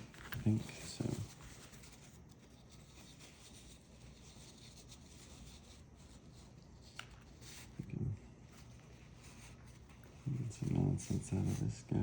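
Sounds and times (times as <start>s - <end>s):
faint scratching: 0.0s - 12.0s.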